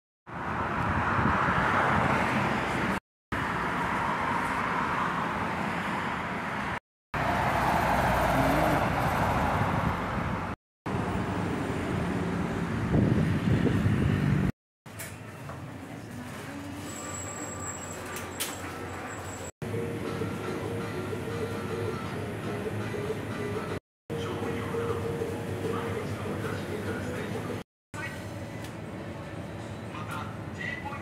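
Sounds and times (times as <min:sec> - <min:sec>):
cars passing on a street: 0:00.3 - 0:31.0.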